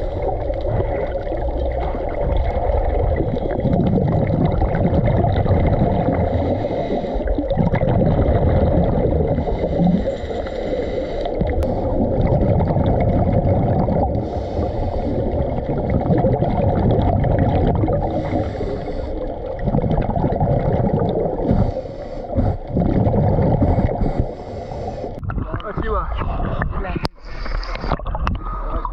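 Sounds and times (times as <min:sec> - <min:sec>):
muffled underwater rumble: 0:00.0 - 0:28.9
regulator bubbles hissing: 0:00.0 - 0:28.9.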